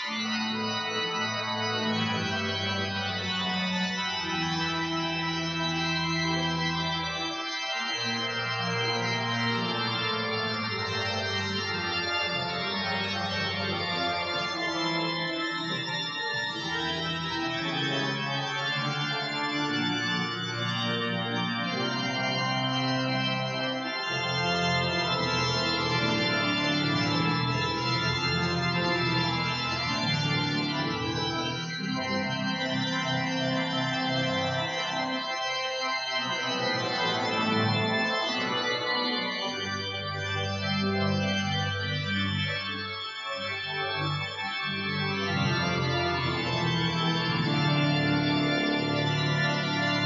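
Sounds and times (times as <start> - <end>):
organ playing slow chords: 0.0 - 50.0.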